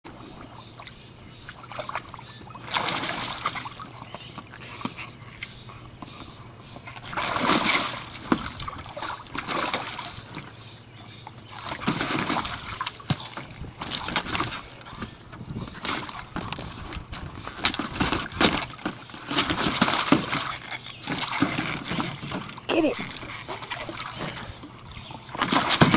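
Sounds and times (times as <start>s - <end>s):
dog splashing in pool: 1.5s - 5.2s, 6.9s - 10.6s, 11.4s - 25.9s.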